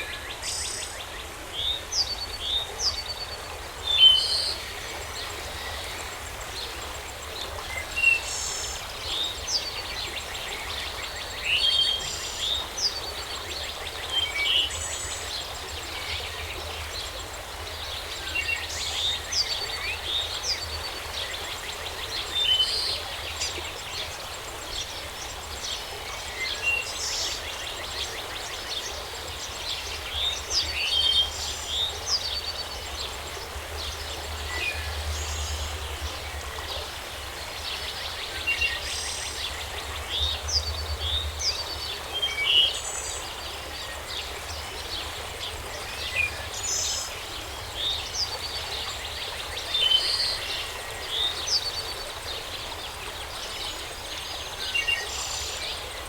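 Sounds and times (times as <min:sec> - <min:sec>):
outdoor ambience hiss: 0:00.0 - 0:56.0
songbirds chirping: 0:00.0 - 0:56.0.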